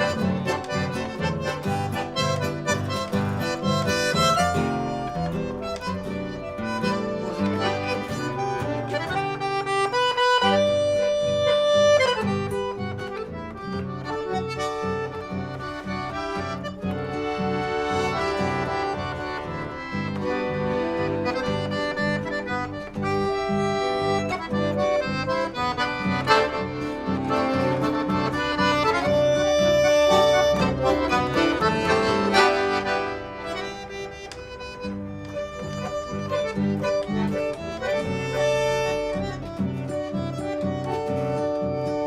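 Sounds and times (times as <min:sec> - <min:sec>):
accordion melody: 0:00.0 - 0:42.0.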